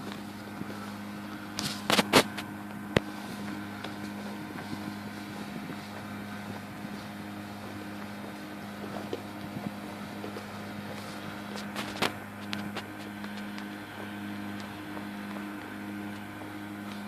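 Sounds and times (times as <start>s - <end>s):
aircraft engine humming: 0.0s - 17.0s.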